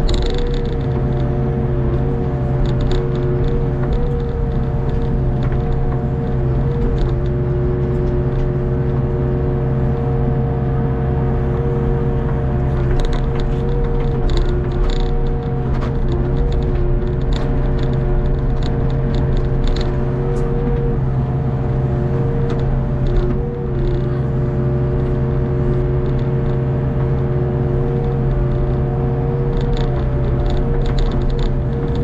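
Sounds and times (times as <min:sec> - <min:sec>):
light ticks and clatter: 0:00.0 - 0:09.1, 0:12.3 - 0:21.2, 0:22.4 - 0:32.0
excavator diesel engine running: 0:00.0 - 0:32.0.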